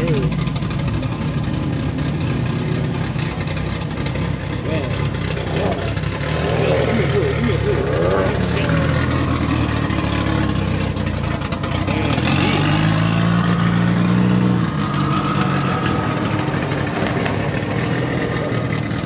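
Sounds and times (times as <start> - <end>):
car engine running loudly: 0.0 - 19.0.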